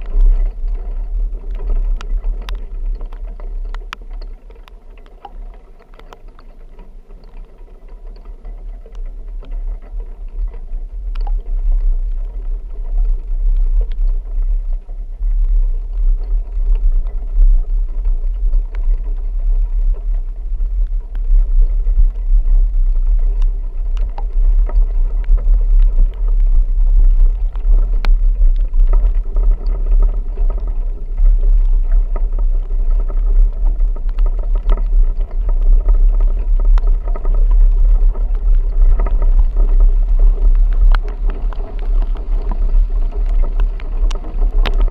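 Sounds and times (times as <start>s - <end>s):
sharp clicks and knocks: 0.0s - 44.9s
vehicle engine and road rumble: 0.0s - 44.9s.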